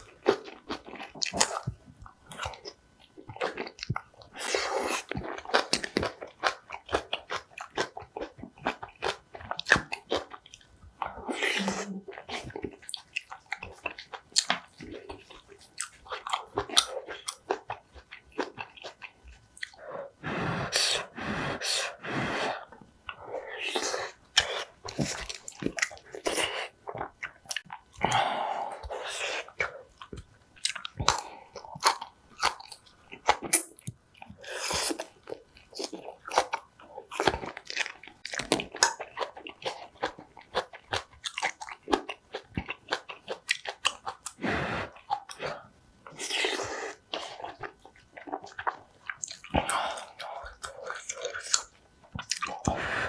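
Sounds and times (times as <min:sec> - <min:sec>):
woman chewing wet smacks: 0:00.0 - 0:19.8, 0:22.6 - 0:53.0.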